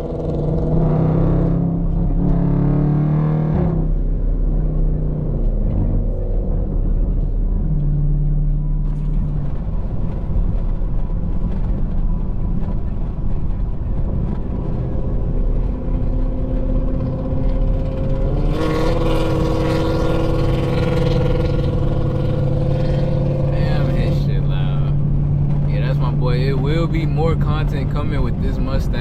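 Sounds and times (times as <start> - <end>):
car engine: 0.0 - 29.0
road rumble: 0.0 - 29.0.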